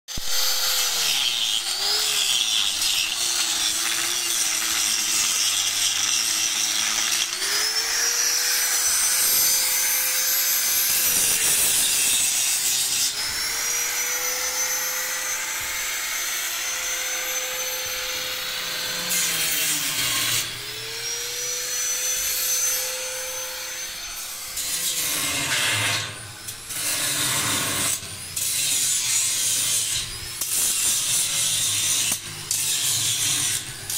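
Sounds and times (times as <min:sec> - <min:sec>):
angle grinder grinding steel: 0:00.1 - 0:33.9.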